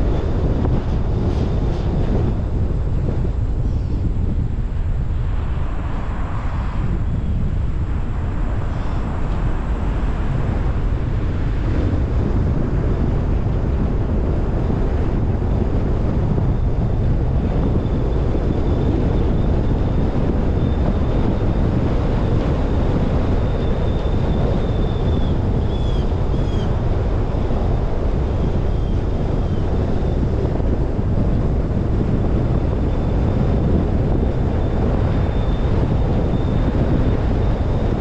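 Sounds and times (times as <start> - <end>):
road noise: 0.0 - 38.0
wind buffeting microphone: 0.0 - 38.0.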